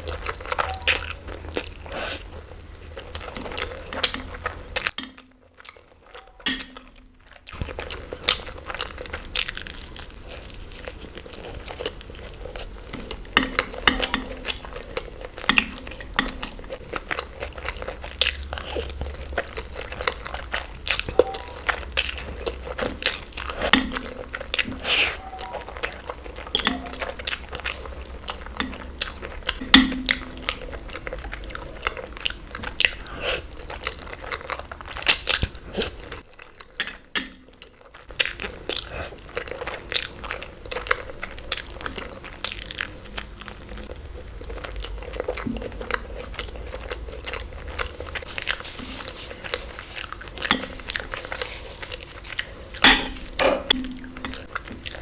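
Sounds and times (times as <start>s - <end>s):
person biting and chewing food: 3.1s - 43.8s, 44.6s - 55.0s.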